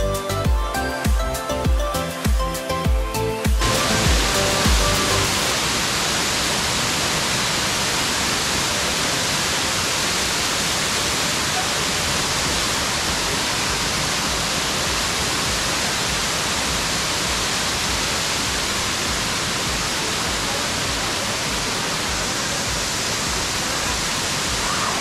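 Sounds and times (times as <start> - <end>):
waterfall rushing: 0.2 - 25.0.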